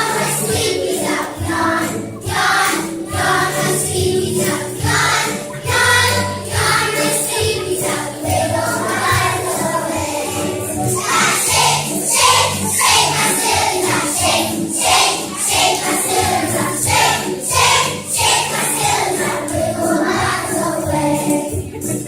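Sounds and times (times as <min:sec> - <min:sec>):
children singing over a beat: 0:00.0 - 0:22.0.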